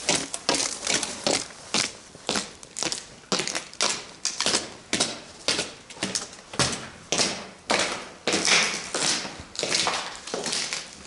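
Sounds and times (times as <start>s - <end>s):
footsteps on concrete: 0.0s - 11.0s.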